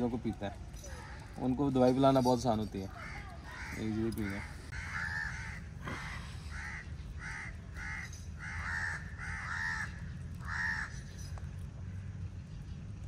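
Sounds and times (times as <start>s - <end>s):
crows cawing: 0.8s - 11.4s.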